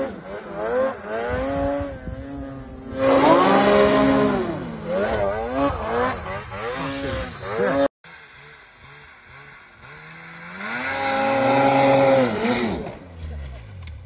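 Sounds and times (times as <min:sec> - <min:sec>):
snowmobile engine revving: 0:00.0 - 0:13.9
faint engine: 0:00.0 - 0:14.0.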